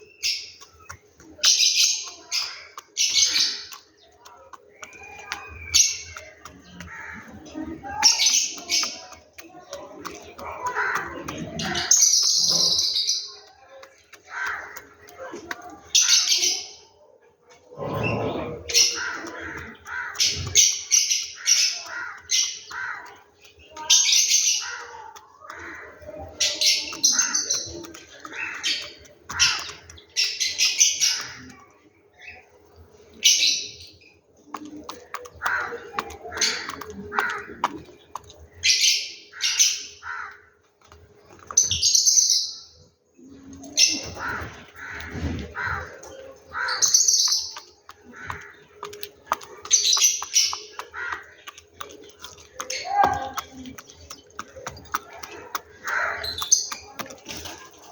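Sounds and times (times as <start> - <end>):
birds harsh calls: 0.0 - 57.9
soft bird chirps: 0.0 - 57.9.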